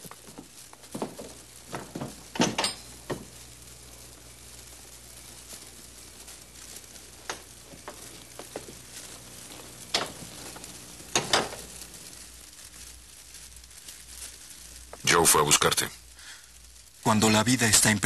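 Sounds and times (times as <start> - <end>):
television soundtrack hiss: 0.0 - 18.0.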